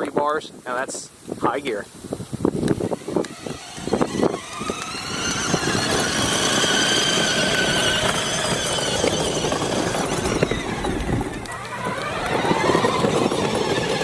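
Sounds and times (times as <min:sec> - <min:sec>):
wheels rumbling: 0:02.1 - 0:14.0
toy truck motors whining: 0:02.6 - 0:14.0.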